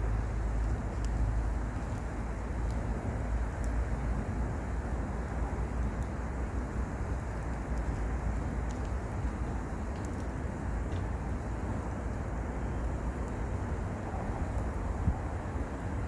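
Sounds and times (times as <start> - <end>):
fire crackling: 0.0 - 16.0
low rumbling fire noise: 0.0 - 16.0.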